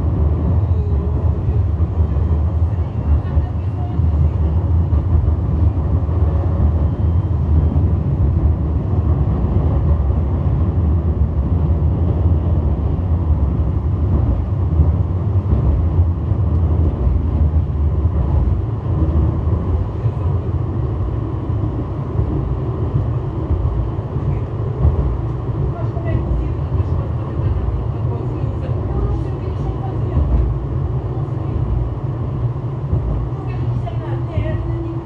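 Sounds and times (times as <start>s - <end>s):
tram rumbling: 0.0s - 35.0s.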